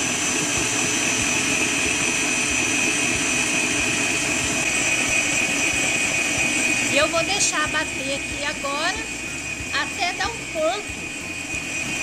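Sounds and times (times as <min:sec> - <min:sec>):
stand mixer whining: 0:00.0 - 0:12.0.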